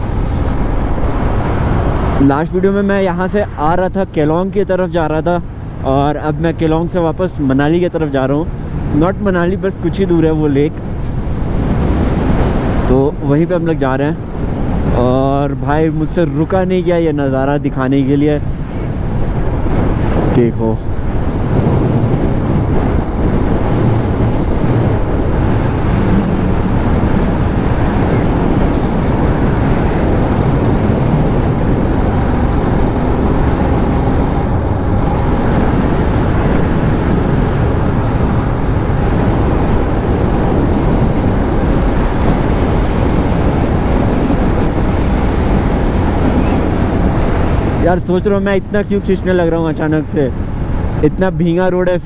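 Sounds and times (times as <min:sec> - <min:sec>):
wind rushing on helmet microphone: 0:00.0 - 0:52.0.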